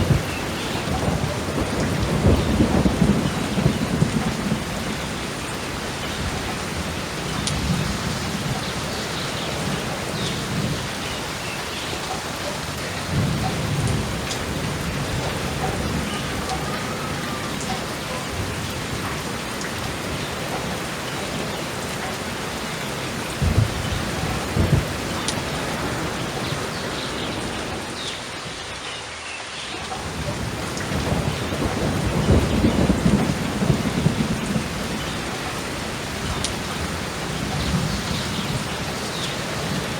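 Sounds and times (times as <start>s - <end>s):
sharp thunderclaps: 0.0s - 11.4s, 12.9s - 28.4s, 30.0s - 39.9s
rolling thunder: 0.0s - 28.7s, 30.0s - 39.9s
heavy rain: 0.0s - 39.9s.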